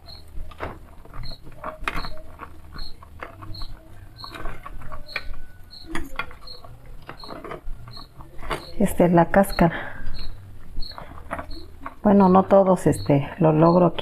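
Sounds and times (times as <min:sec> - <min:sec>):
faint high chirp: 0:00.0 - 0:00.4, 0:01.2 - 0:14.0
utensil scraping in clay pot: 0:00.0 - 0:14.0.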